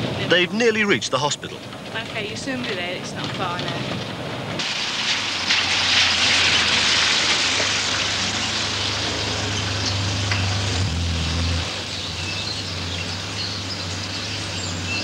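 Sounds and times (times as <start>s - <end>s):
low engine hum: 0.0s - 15.0s
vehicle engine and tyre noise: 0.0s - 15.0s.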